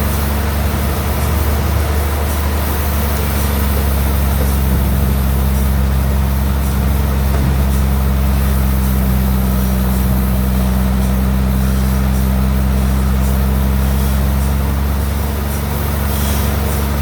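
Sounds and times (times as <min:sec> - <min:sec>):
sawmill machinery droning: 0:00.0 - 0:17.0.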